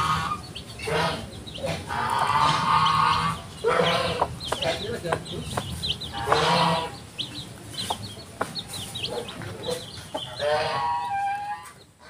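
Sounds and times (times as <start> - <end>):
chicks peeping rapidly: 0.0 - 12.0
hen clucking: 0.0 - 12.0.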